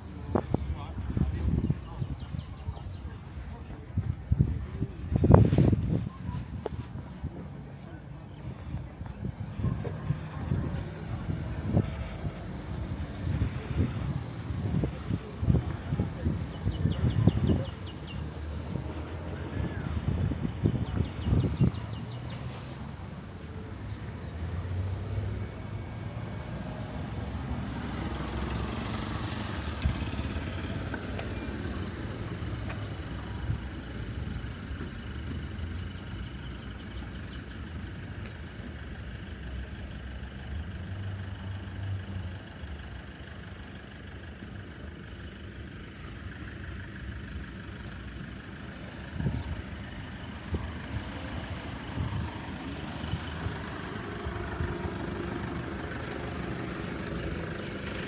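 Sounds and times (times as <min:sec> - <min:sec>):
vehicles passing with engine rumble: 0:00.0 - 0:58.0.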